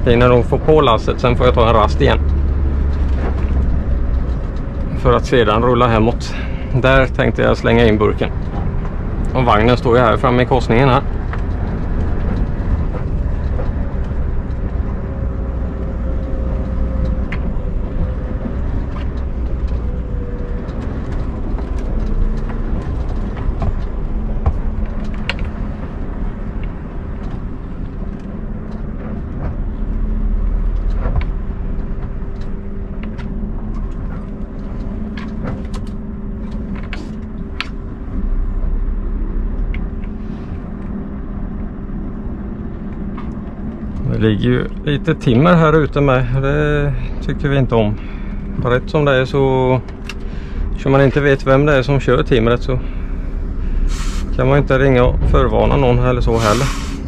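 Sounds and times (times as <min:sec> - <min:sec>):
road noise: 0:00.0 - 0:57.0
truck diesel engine rumble: 0:00.0 - 0:57.0.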